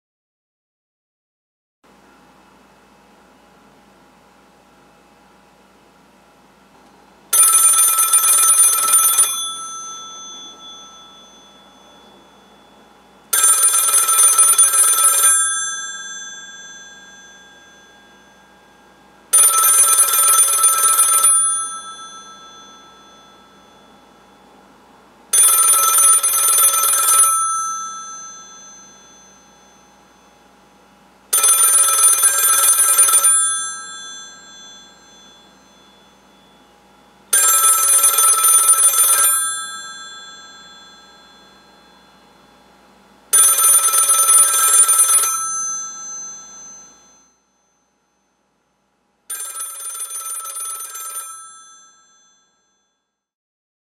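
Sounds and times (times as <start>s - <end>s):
telephone bells ringing: 7.3s - 24.7s, 25.3s - 48.0s, 49.2s - 53.0s.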